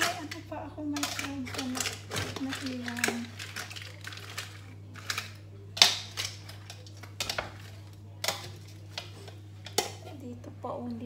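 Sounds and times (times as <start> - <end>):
metal utensils clanking on steel pot: 0.0 - 10.2.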